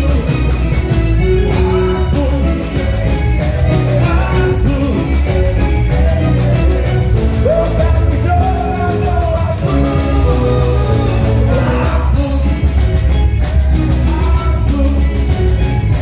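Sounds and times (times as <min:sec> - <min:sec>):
person singing: 0:00.0 - 0:12.9, 0:13.8 - 0:16.0
loud drums and bass: 0:00.0 - 0:16.0.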